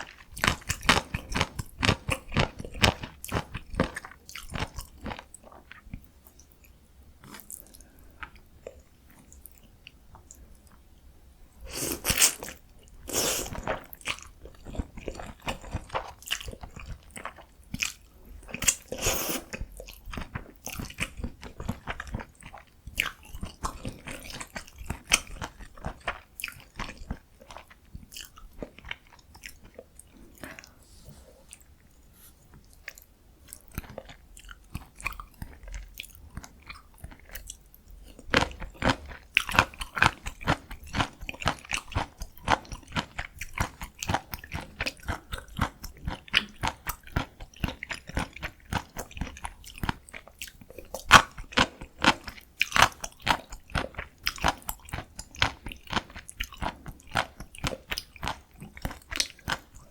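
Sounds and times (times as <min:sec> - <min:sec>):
chewing noodles: 0:00.0 - 0:10.8, 0:11.7 - 0:30.8, 0:31.5 - 0:59.9.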